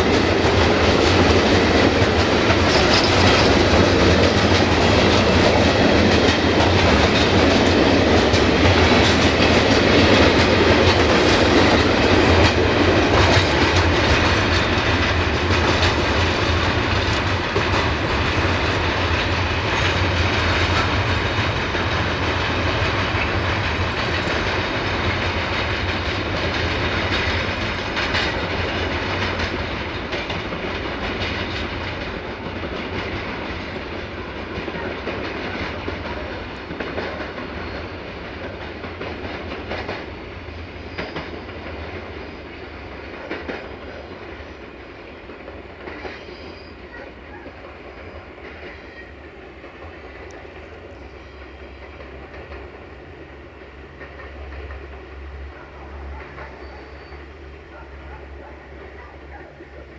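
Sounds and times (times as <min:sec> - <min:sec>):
train rumble: 0:00.0 - 0:59.9
train wheels clicking over rail joints: 0:00.0 - 0:59.9.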